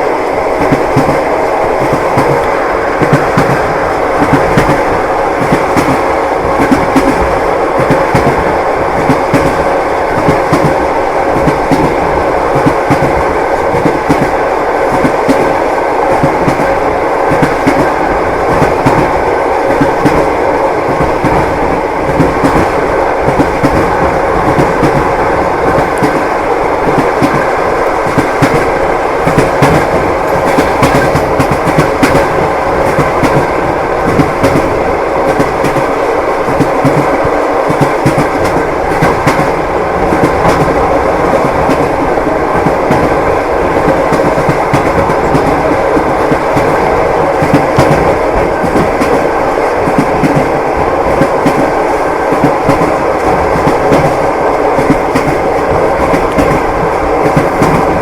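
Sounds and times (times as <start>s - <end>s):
train wheels clattering: 0.6s - 58.0s.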